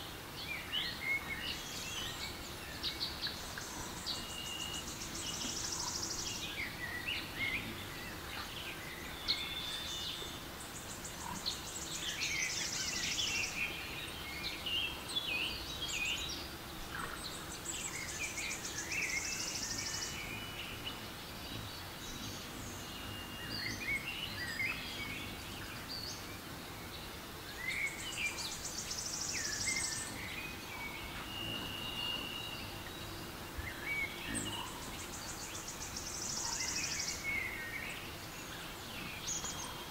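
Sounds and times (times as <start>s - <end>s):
forest background: 0.0s - 39.9s
birds chirping and calling: 0.8s - 39.9s.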